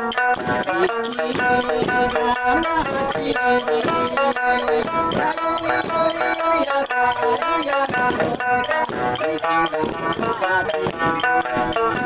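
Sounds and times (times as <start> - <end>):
drum beats: 0.0 - 12.0
person singing: 0.0 - 12.0
plucked lute: 0.0 - 12.0.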